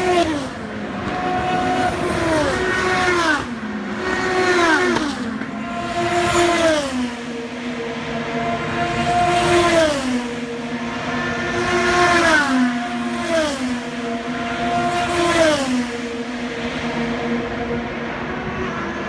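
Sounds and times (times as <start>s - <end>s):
race cars passing at full speed: 0.0s - 19.0s.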